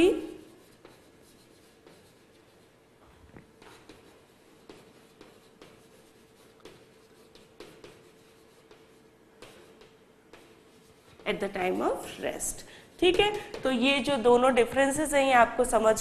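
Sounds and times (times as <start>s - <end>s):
chalk tapping and scraping on blackboard: 0.0s - 2.8s, 3.5s - 15.3s.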